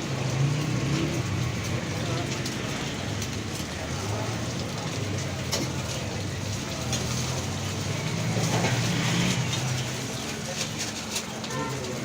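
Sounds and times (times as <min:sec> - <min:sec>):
oil sizzling on griddle: 0:00.0 - 0:12.0.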